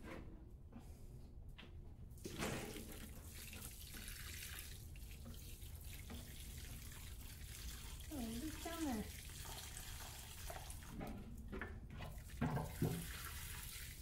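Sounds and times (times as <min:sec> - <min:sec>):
water trickling onto soil: 0:02.7 - 0:14.0.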